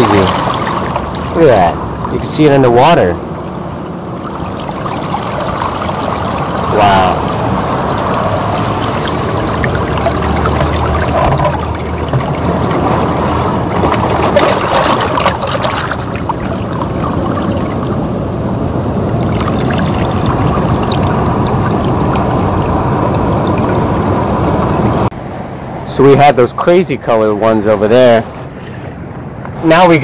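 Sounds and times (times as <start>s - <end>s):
water sloshing and trickling: 0.0s - 25.1s
water splashes: 0.0s - 25.1s.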